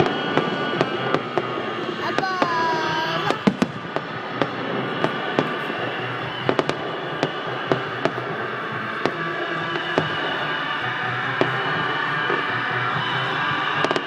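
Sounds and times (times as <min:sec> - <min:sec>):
background music: 0:00.0 - 0:14.0
fireworks banging and popping: 0:00.0 - 0:14.0.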